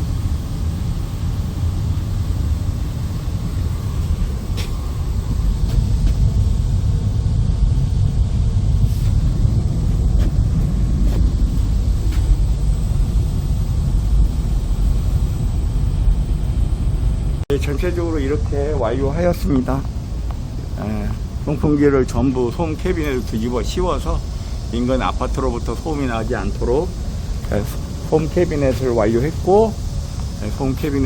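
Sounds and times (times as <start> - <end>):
ventilation blowers rumbling: 0.0 - 31.0.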